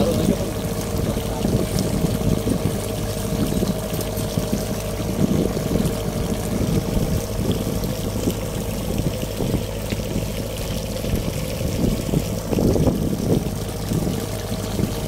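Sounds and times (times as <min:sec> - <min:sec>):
boat motor hum: 0:00.0 - 0:15.0
water pouring and splashing onto sea: 0:00.0 - 0:15.0.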